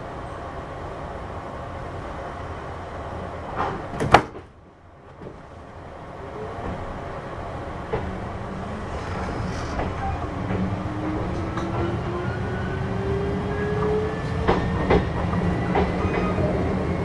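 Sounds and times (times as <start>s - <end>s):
train doors sliding shut: 3.2s - 17.0s.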